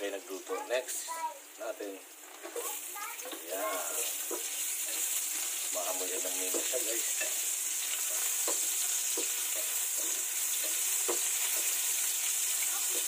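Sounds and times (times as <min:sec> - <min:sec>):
sizzling in hot oil: 0:00.0 - 0:13.0
spatula scraping pan: 0:02.3 - 0:13.0.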